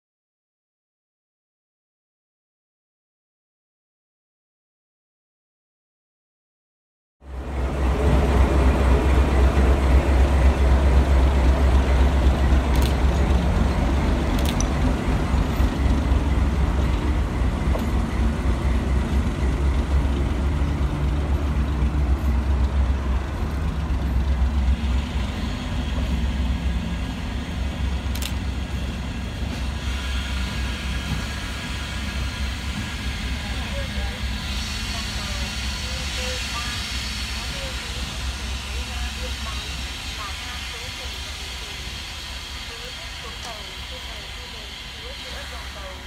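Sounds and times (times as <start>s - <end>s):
locomotive engine rumble: 7.3s - 46.0s.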